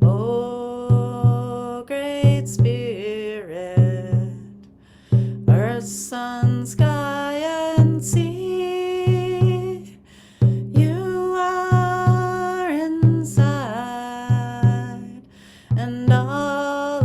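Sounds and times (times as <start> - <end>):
drum beating heartbeat rhythm: 0.0 - 3.0, 3.8 - 4.5, 5.1 - 17.0
woman singing a devotional chant: 0.0 - 4.6, 5.4 - 17.0.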